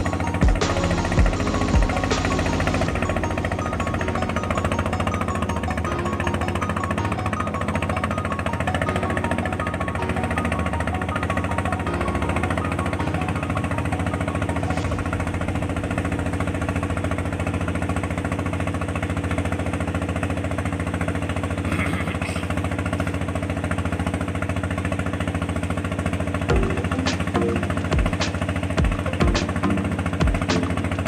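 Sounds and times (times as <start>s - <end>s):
engine running with knocking pulse: 0.0s - 31.0s.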